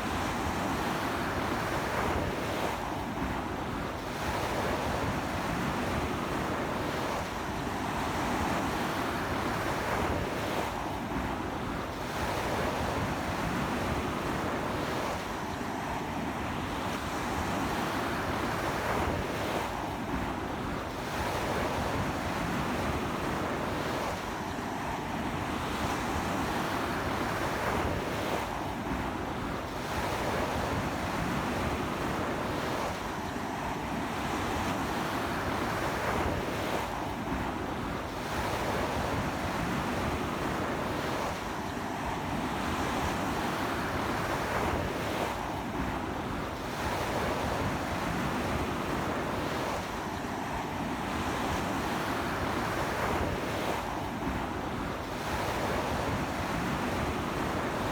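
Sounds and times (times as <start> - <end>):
sea waves breaking on beach: 0.0 - 57.9.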